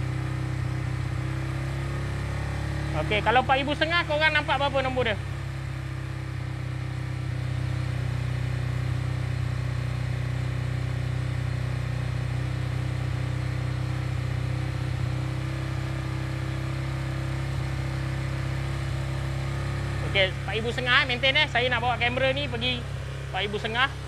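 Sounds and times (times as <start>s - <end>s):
motorcycle engine droning: 0.0s - 24.0s.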